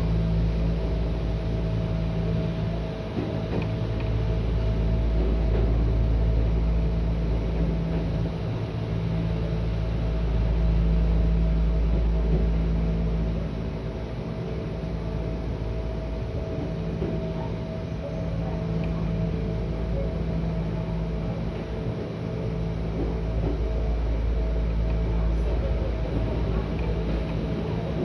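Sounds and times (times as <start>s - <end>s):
steady hum: 0.0s - 28.0s
train running gear rumble: 0.0s - 28.0s.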